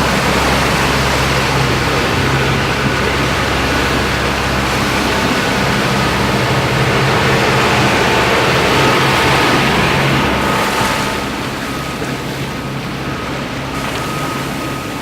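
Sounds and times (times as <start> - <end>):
low steady hum: 0.0 - 15.0
water along hull: 0.0 - 15.0.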